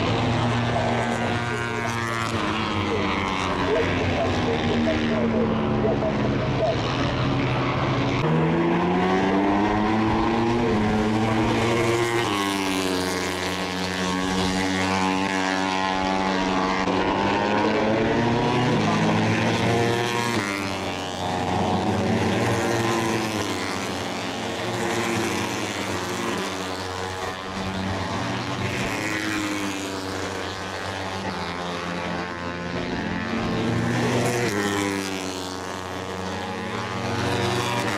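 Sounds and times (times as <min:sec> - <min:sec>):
race motorcycles revving past: 0:00.0 - 0:37.9.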